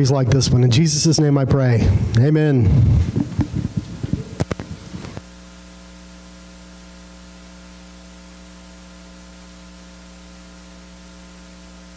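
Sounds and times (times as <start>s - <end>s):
electrical mains hum with hiss: 0.0s - 11.9s.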